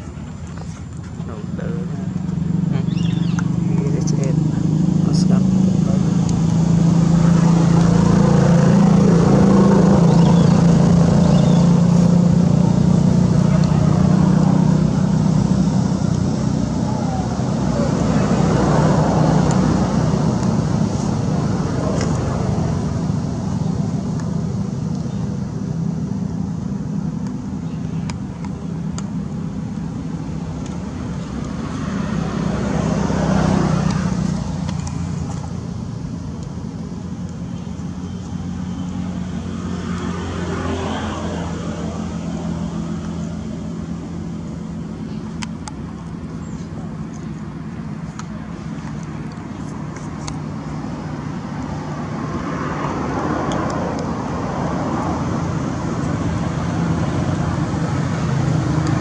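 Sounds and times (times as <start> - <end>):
engine humming: 0.0 - 59.0
low rumbling noise: 0.0 - 59.0.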